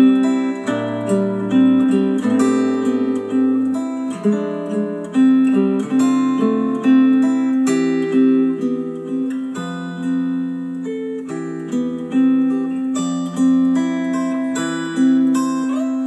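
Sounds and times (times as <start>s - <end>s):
strummed guitar chords: 0.0s - 16.0s.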